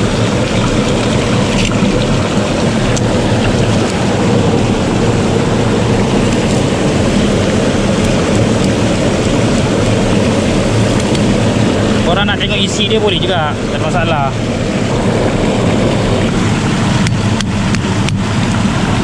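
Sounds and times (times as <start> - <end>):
white water rushing: 0.0 - 19.0.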